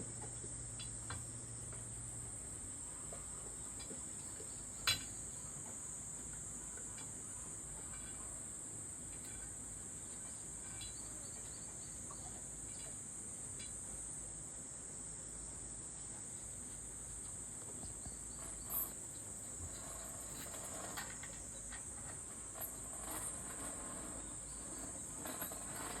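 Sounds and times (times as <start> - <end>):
high-pitched insect chorus: 0.8 - 26.0.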